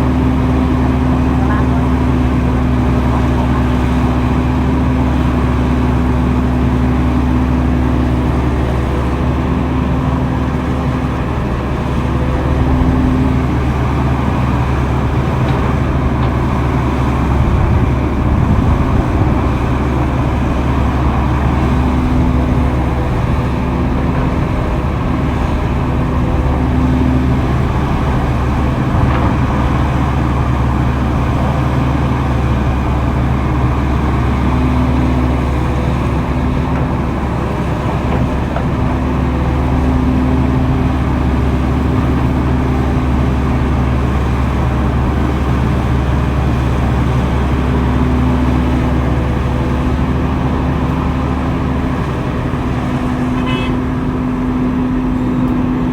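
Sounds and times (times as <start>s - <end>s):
diesel engine humming: 0.0s - 55.9s.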